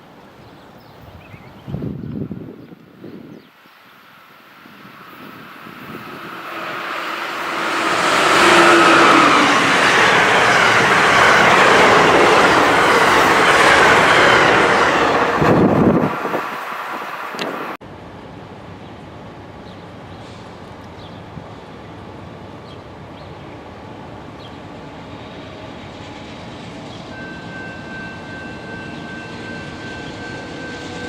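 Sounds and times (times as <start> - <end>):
train rumbling and clattering: 5.1 - 31.0.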